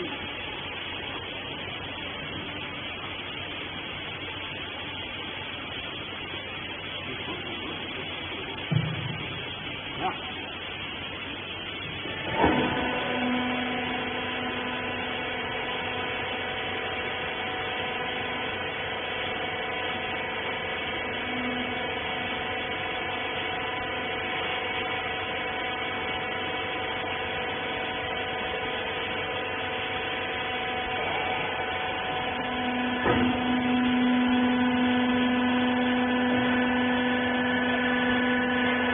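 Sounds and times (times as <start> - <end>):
baler motor and pump hum: 0.0 - 38.9.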